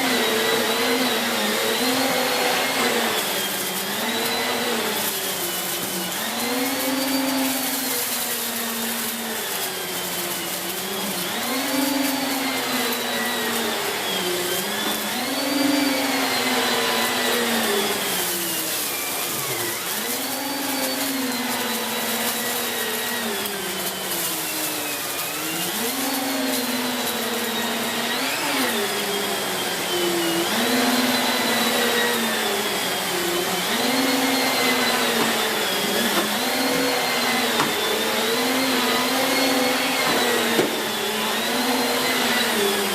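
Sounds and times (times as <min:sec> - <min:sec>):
vacuum cleaner motor whine: 0:00.0 - 0:42.9.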